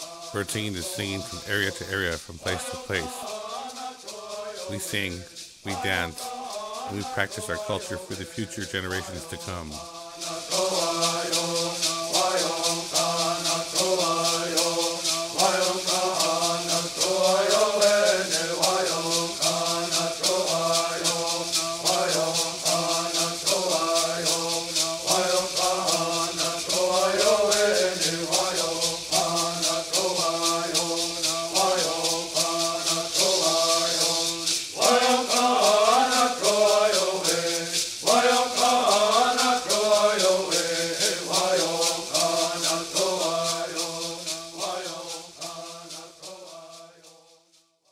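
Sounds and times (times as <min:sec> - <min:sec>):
voices chanting: 0:00.0 - 0:47.0
gourd rattles shaken: 0:01.2 - 0:47.0.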